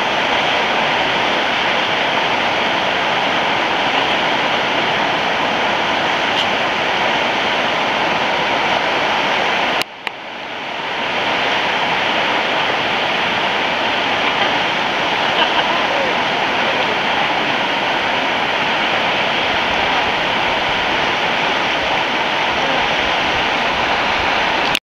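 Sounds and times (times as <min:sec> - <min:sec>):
river rapids rushing: 0:00.0 - 0:24.8.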